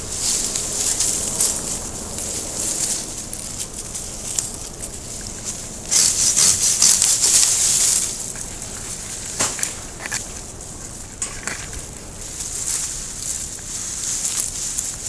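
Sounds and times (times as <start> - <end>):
leaves and twigs rustling: 0.0 - 15.0.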